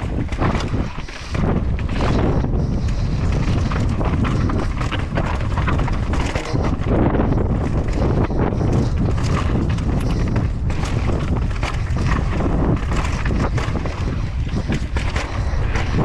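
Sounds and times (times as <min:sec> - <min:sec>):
bike rattling over rocky ground: 0:00.0 - 0:16.0
wind buffeting microphone: 0:00.0 - 0:16.0.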